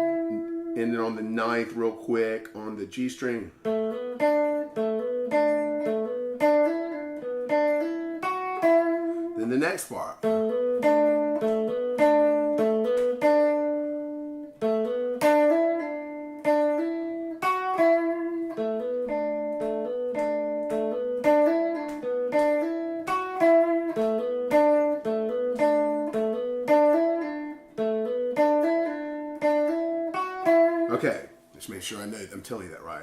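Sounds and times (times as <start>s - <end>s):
guitar lead lick: 0.0s - 33.0s.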